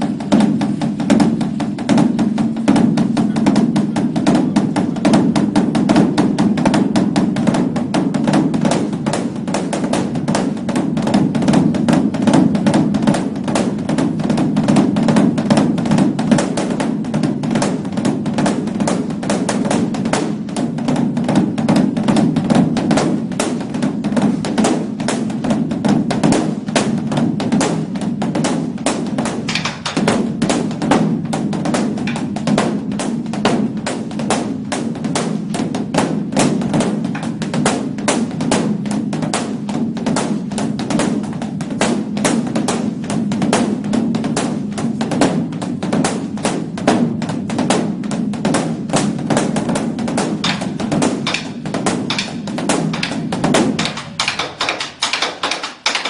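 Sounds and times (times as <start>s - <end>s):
large drum beaten with sticks: 0.0s - 56.0s.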